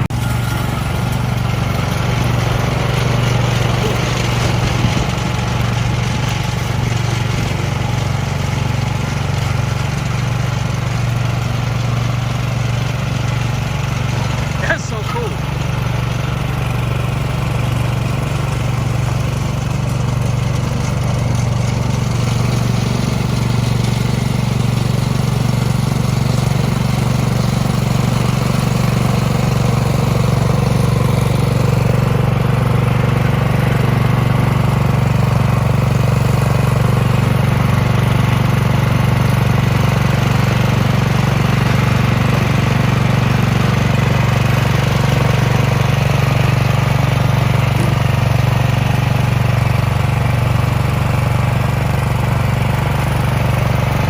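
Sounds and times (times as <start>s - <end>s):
snow blower engine running: 0.0s - 54.0s.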